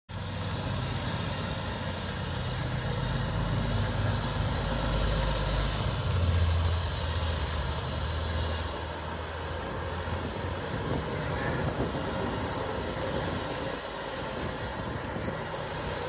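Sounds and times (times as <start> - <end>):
diesel truck engine running: 0.1 - 16.0.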